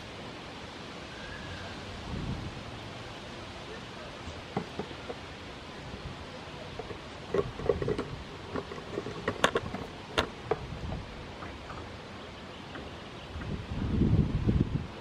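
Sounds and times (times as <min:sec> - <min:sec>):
breeze hiss: 0:00.0 - 0:15.0.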